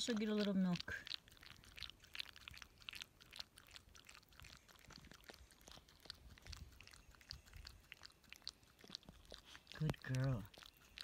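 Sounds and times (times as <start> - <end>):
dog lapping liquid: 0.0 - 11.0.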